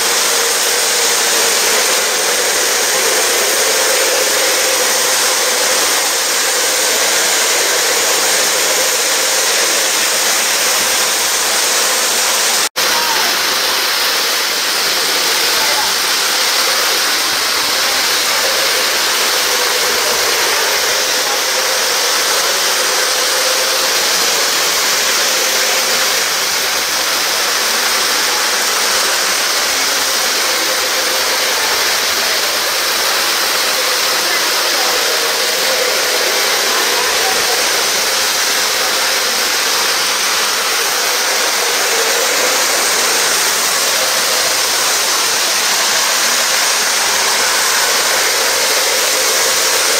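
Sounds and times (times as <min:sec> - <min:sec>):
model trains running: 0:00.0 - 0:49.9.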